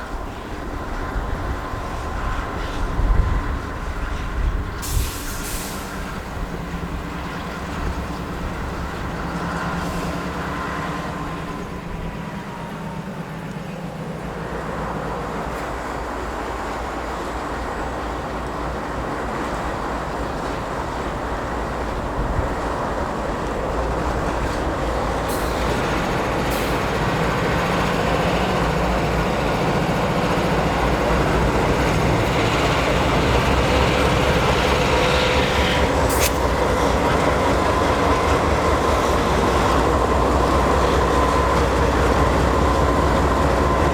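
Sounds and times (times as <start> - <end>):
freight train rumbling by: 0.0 - 43.9.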